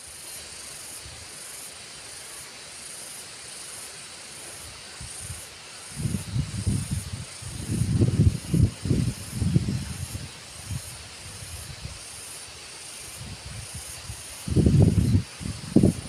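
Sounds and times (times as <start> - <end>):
faint hiss: 0.0 - 16.0
high-pitched insect chorus: 0.0 - 16.0.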